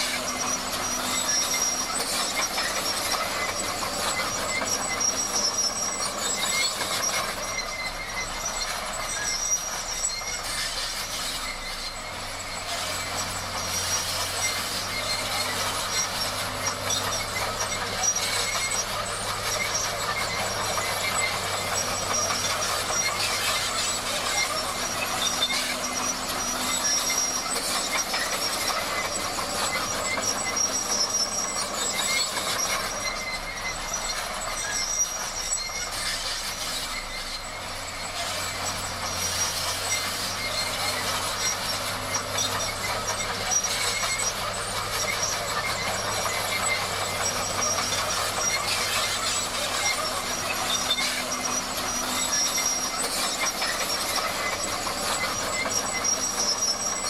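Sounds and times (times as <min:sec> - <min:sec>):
bulldozer engine running: 0:00.0 - 0:57.0
metallic squeal of steel tracks: 0:00.0 - 0:57.0.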